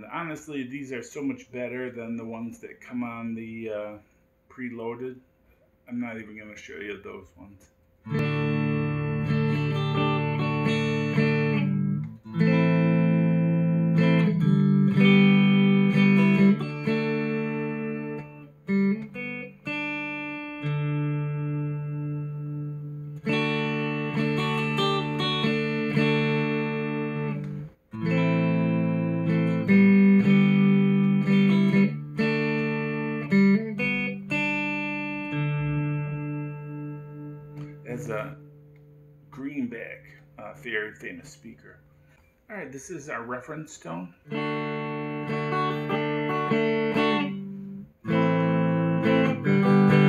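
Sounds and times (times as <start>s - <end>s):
clean electric guitar: 7.6s - 42.5s, 44.0s - 50.0s.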